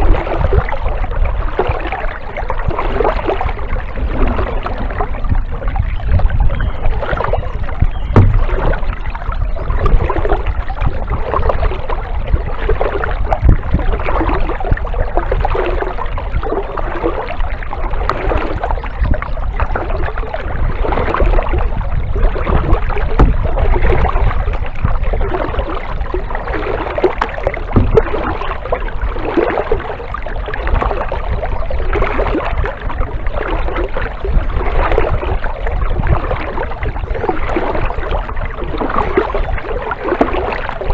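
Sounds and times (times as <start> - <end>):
low rumble: 0.0 - 39.6
kayak paddle splashing: 0.0 - 40.9.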